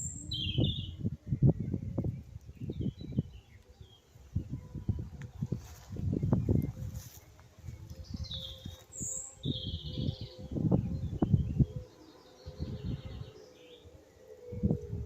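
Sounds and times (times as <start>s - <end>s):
birds chirping: 0.0s - 15.0s
wind buffeting microphone: 0.0s - 15.0s.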